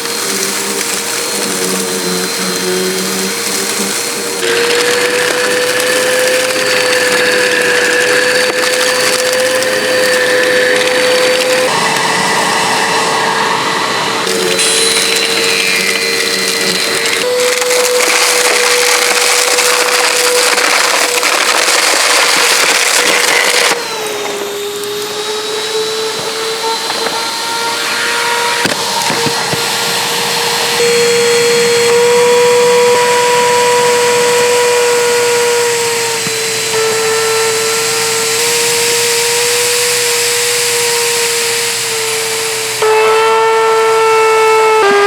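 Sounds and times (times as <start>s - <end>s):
rasping grinding noise: 0.0s - 45.0s
vacuum cleaner motor whine: 0.0s - 45.0s.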